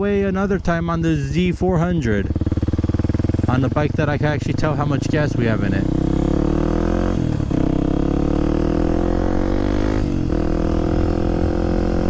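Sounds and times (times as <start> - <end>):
motorcycle engine accelerating: 0.6 - 12.0.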